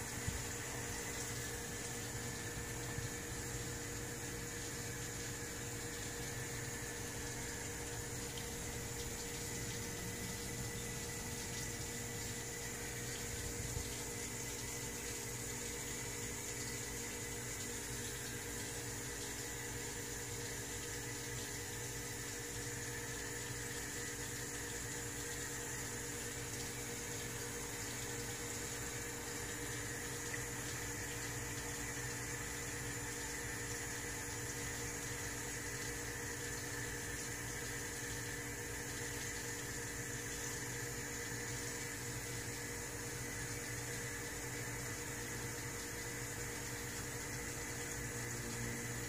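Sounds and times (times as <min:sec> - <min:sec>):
pump hum: 0:00.0 - 0:49.0
water trickling and splashing: 0:00.0 - 0:49.0.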